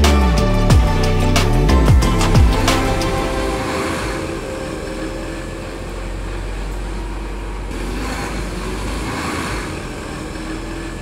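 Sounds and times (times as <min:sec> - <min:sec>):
coach diesel engine driving off: 0:00.3 - 0:11.0.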